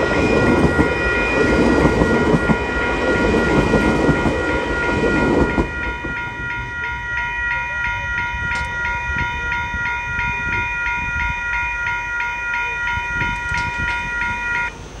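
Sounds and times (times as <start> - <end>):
level crossing bell ringing: 0.0 - 14.8
low train rumble: 0.0 - 15.0.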